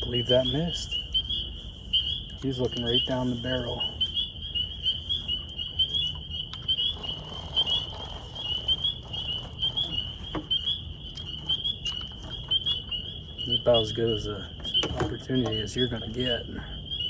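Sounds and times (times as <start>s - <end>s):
frogs trilling: 0.0s - 17.0s.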